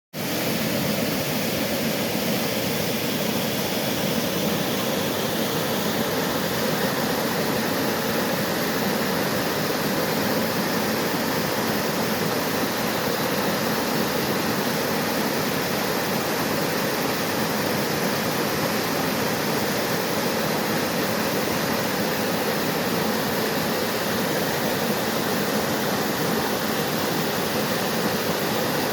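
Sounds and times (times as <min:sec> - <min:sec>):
waterfall rushing: 0:00.2 - 0:28.9.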